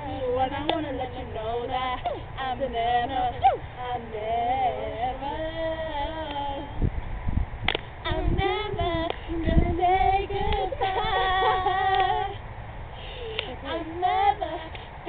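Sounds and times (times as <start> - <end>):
girls singing unaccompanied: 0.0 - 6.8, 8.0 - 12.5, 13.4 - 15.0.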